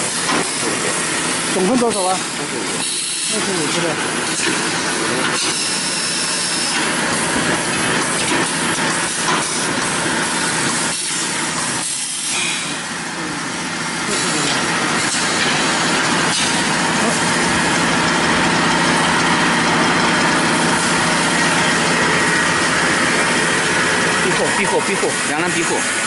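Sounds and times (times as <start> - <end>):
factory machine hiss: 0.0 - 26.0.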